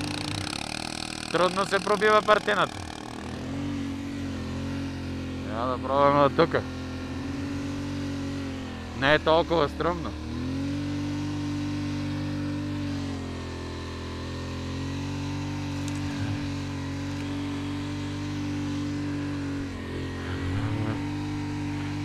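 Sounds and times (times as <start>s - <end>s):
atv engine running under load: 0.0s - 22.0s.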